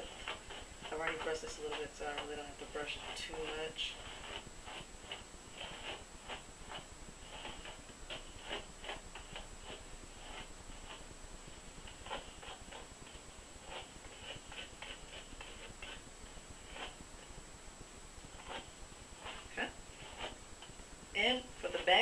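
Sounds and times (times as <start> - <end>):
hairbrush swishing through hair: 0.0 - 11.1, 11.8 - 17.0, 18.2 - 20.4.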